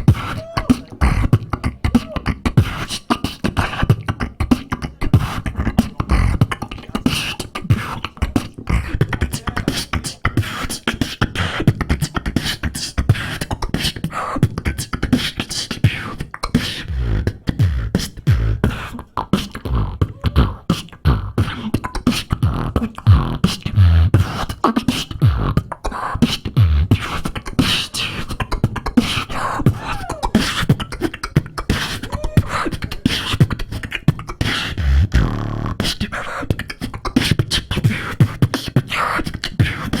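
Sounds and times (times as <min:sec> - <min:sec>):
beatboxing through a microphone: 0:00.0 - 0:40.0.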